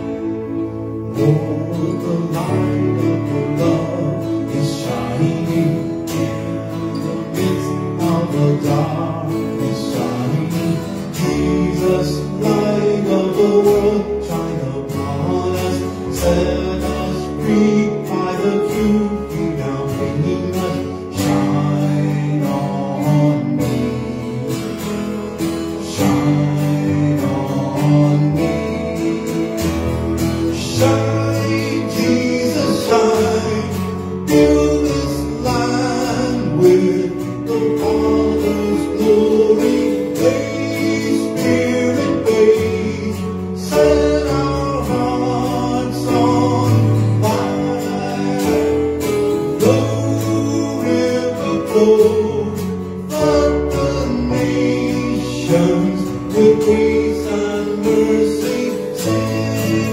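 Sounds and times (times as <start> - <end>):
man singing worship song: 0.0 - 59.9
piano accompaniment: 0.0 - 59.9
strummed acoustic guitar: 0.0 - 59.9.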